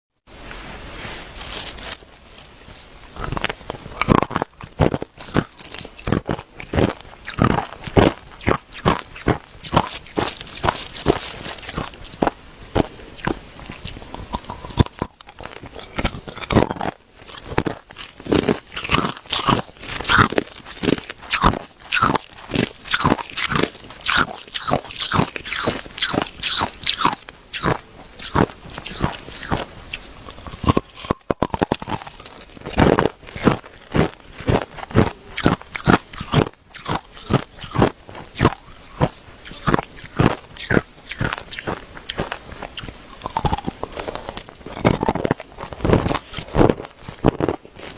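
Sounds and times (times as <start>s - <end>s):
ice being chewed: 1.3s - 47.9s.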